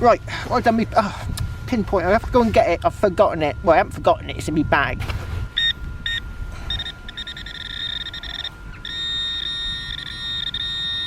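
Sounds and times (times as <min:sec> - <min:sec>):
pinpointer probe electronic buzz: 0:02.1 - 0:11.0.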